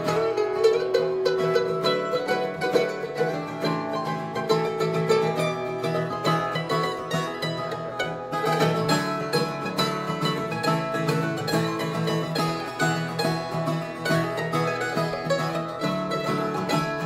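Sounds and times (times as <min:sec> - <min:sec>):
plucked string band music: 0:00.0 - 0:17.0.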